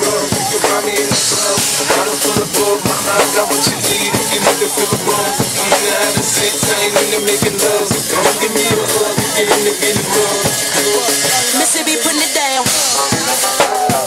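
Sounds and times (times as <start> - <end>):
drum kit playing a beat: 0.0 - 14.0
recorded hip-hop music: 0.0 - 14.0.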